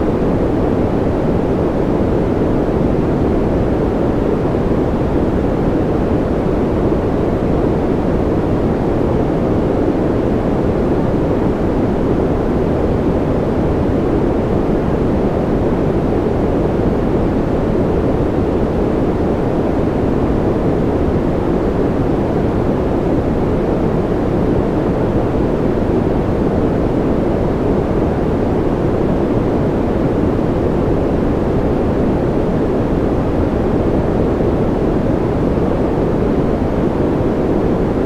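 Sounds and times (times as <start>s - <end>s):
white noise hiss: 0.0s - 38.0s.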